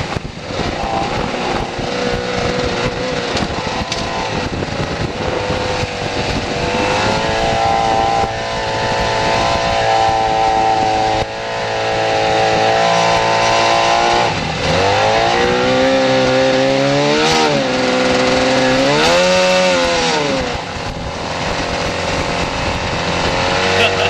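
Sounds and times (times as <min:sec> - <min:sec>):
jet ski engine: 0:00.0 - 0:24.0
steady rushing noise: 0:00.0 - 0:24.0.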